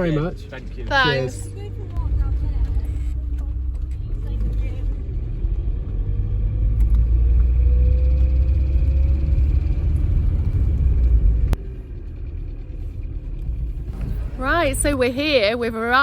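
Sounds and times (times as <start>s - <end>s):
van road and engine rumble: 0.0s - 16.0s.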